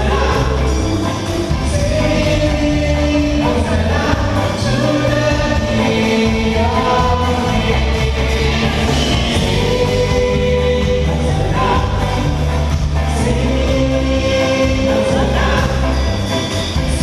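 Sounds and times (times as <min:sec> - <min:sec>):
live band music with singing: 0:00.0 - 0:17.0.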